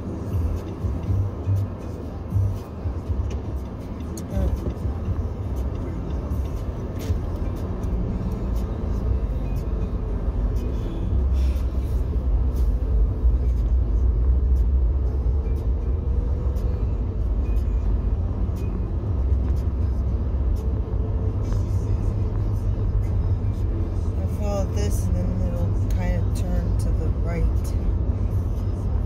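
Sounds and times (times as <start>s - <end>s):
car cabin tyre and engine rumble: 0.0s - 29.0s.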